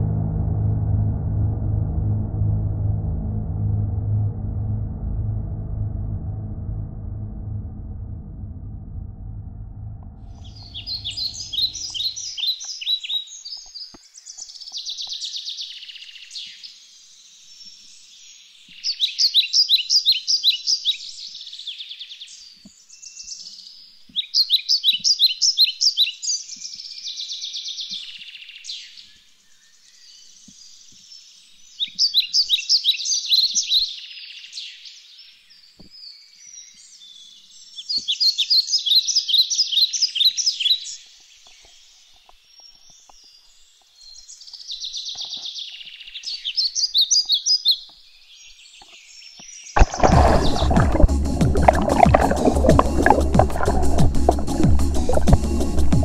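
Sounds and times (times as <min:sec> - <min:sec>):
songbird chirping: 0:10.3 - 0:56.0.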